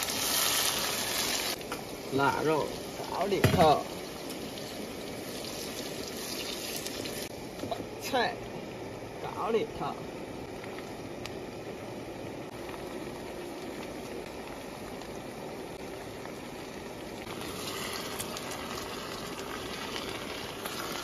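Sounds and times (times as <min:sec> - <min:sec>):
food sizzling in a wok: 0:00.0 - 0:08.4, 0:12.5 - 0:21.0.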